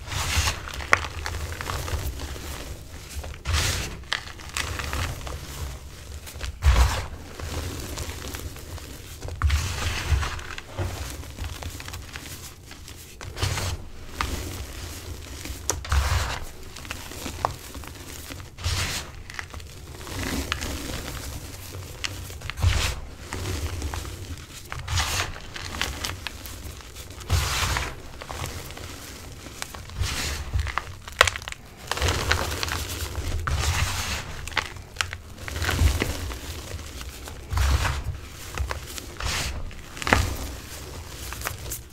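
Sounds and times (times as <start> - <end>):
powder rustling: 0.0 - 41.9
powdery crunching and crumbling: 0.0 - 41.9.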